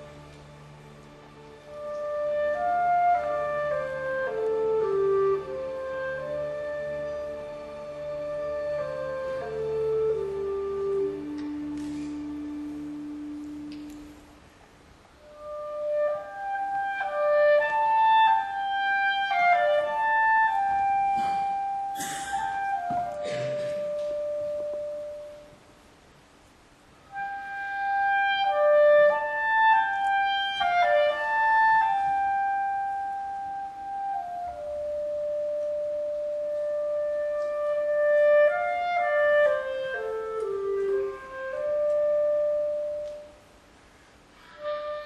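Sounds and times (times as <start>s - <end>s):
clarinet melody: 0.0s - 25.7s, 27.0s - 43.6s, 44.3s - 45.0s.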